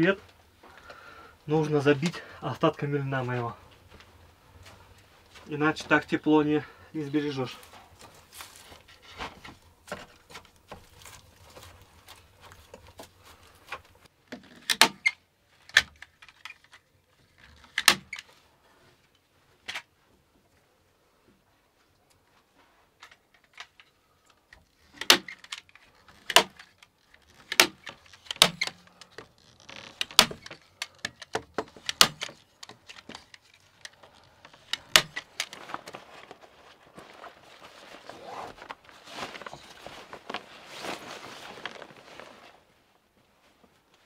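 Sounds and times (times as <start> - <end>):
rustling: 3.1 - 14.6, 15.4 - 44.0.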